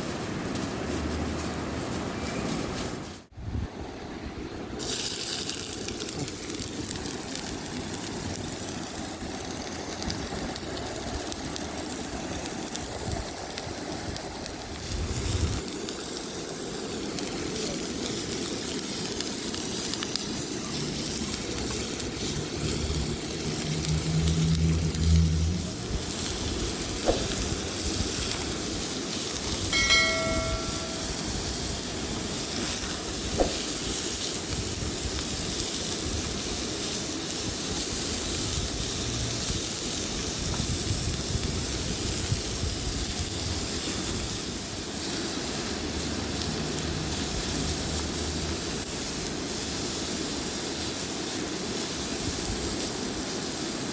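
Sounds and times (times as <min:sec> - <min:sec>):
food sizzling in a pan: 0:04.8 - 0:53.9.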